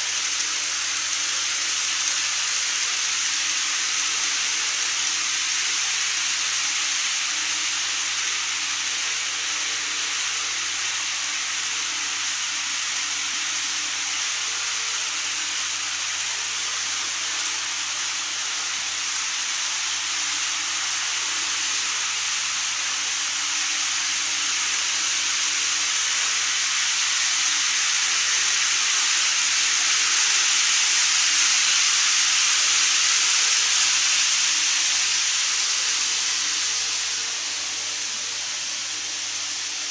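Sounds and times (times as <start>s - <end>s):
model train wheels on rails: 0.0s - 39.9s.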